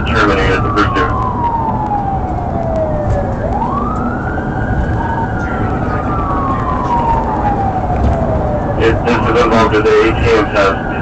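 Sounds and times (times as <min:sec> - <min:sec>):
engine and road noise: 0:00.0 - 0:11.0
police siren wailing: 0:00.0 - 0:11.0.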